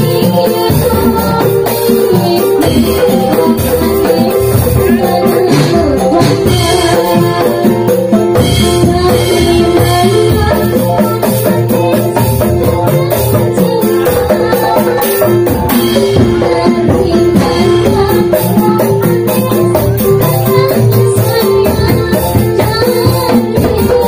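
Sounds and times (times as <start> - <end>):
drums: 0.0 - 24.0
jingling hand percussion: 0.0 - 24.0
person singing: 0.0 - 24.0.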